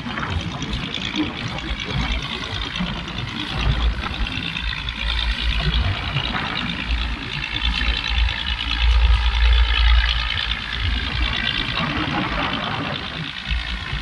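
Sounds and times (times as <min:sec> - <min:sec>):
boat engine running: 0:00.0 - 0:14.0
heavy uneven low rumble: 0:00.0 - 0:14.0.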